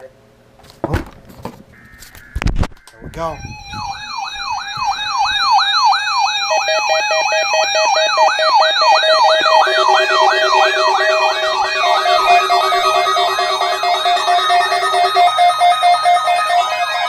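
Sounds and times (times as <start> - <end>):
steady electronic beeping: 1.7 - 17.0
alarm falling whoop: 3.1 - 17.0.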